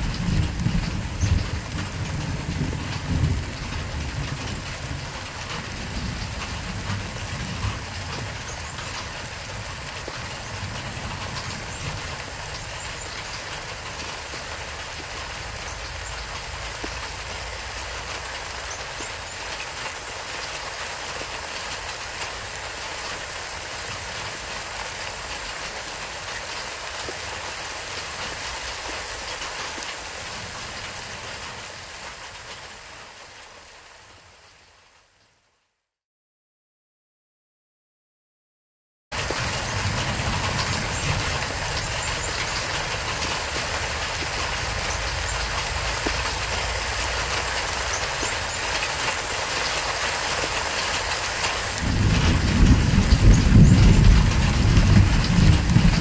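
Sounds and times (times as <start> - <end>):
steady rain hiss: 0.0 - 35.9, 39.2 - 56.0.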